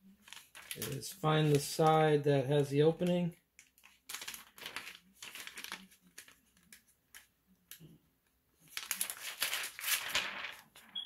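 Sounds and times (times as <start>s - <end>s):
plastic pouch rustling and crinkling: 0.0s - 1.9s, 3.0s - 7.9s, 8.6s - 11.0s.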